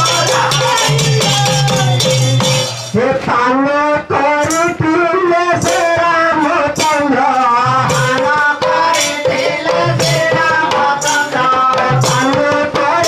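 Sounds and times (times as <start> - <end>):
jingling percussion: 0.0 - 3.3, 4.1 - 13.0.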